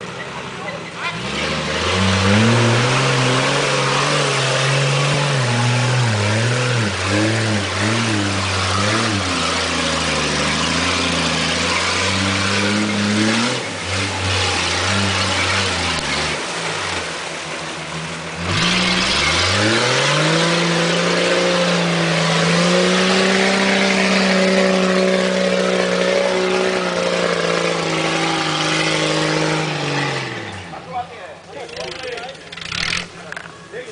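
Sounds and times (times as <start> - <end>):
vehicle engine revving: 0.0 - 33.6.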